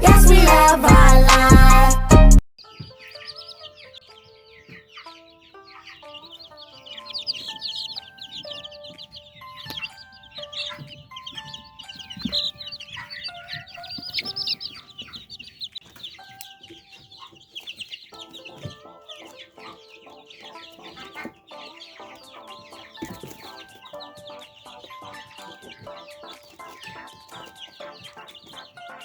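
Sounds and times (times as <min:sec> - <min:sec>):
chickens clucking: 0:02.6 - 0:29.0
soft background music: 0:02.6 - 0:29.0.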